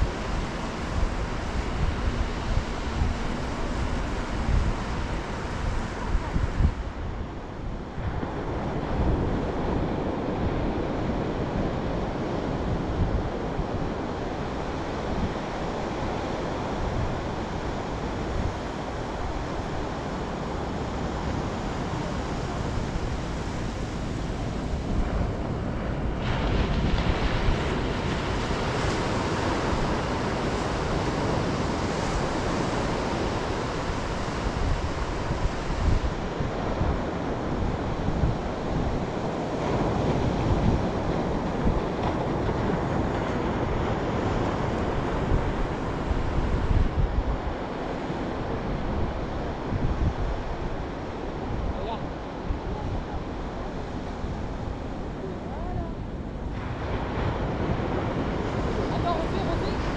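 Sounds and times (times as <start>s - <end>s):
ocean surf on sandy beach: 0.0s - 59.9s
wind buffeting microphone: 0.0s - 59.9s.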